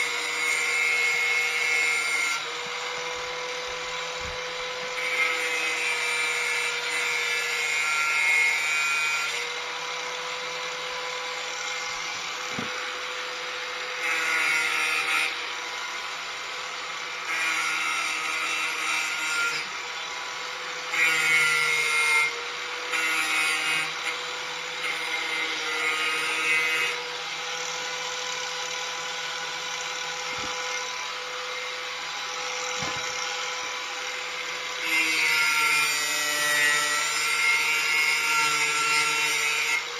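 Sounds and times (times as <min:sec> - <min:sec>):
angle grinder whining: 0:00.0 - 0:39.9
grinder disc grinding steel blade: 0:00.0 - 0:39.9.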